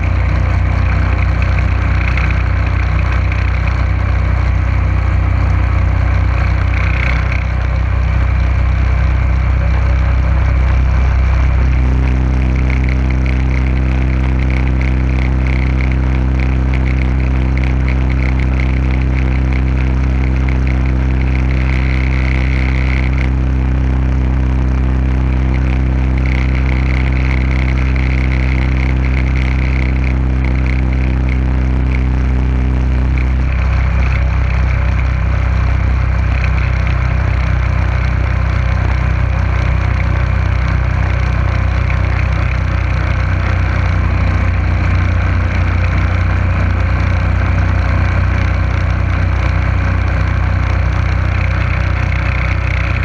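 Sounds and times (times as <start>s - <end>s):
boat motor running: 0.0s - 53.0s.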